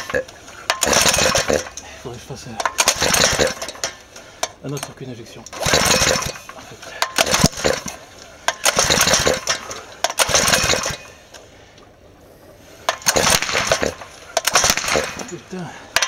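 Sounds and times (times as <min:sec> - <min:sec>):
small engine cranking with knocks: 0:00.0 - 0:11.5, 0:12.8 - 0:16.0.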